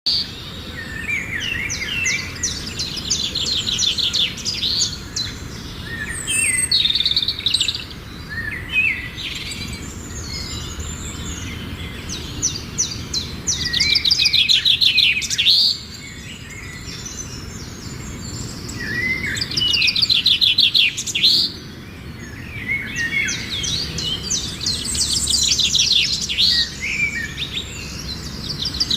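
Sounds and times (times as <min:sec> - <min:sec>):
songbird trilling and chirping: 0:00.1 - 0:28.9.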